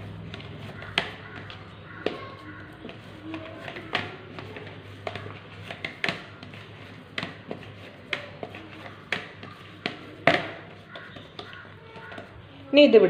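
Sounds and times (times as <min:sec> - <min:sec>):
dough knocking against plastic bowl: 0:00.0 - 0:12.5.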